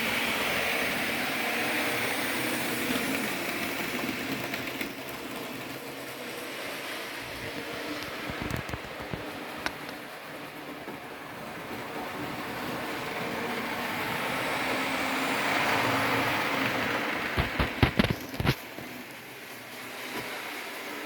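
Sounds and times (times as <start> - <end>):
model train motor and wheels whirring: 0.0 - 21.0.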